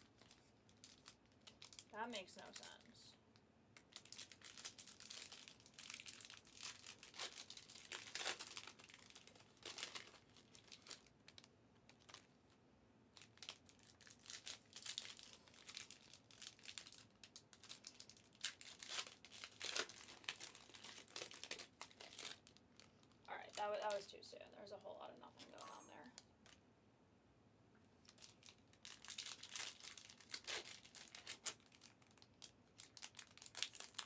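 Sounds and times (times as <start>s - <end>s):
plastic wrappers crinkling: 0.0s - 3.0s, 3.8s - 12.3s, 13.1s - 26.6s, 28.0s - 34.0s.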